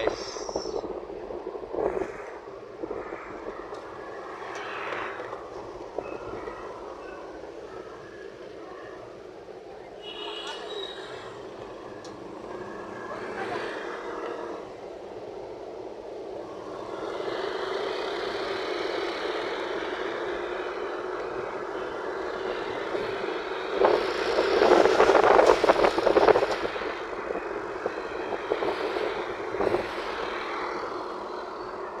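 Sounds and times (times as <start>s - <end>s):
road vehicle rush: 0.0s - 32.0s.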